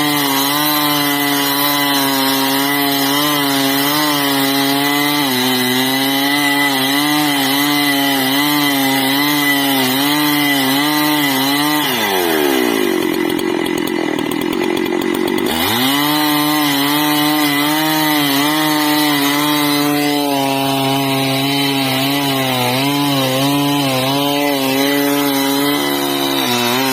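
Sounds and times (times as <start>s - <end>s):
chainsaw cutting a tree: 0.0s - 26.9s.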